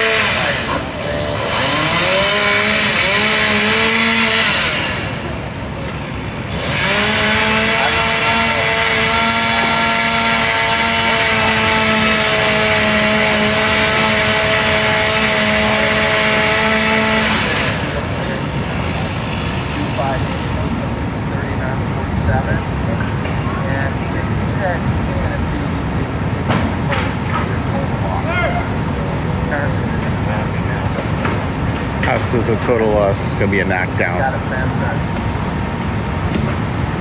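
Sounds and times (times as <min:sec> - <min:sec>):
engine revving at high speed: 0:00.0 - 0:37.0.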